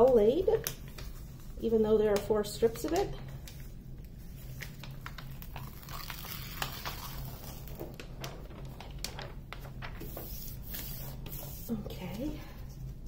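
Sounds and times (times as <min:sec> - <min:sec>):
paper rustling and crinkling: 0:02.2 - 0:13.0.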